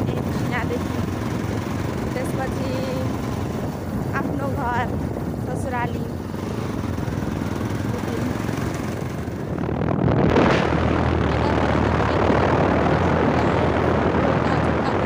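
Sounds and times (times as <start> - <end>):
vehicle engine running: 0.0 - 15.0
wind rushing over microphone: 0.0 - 15.0.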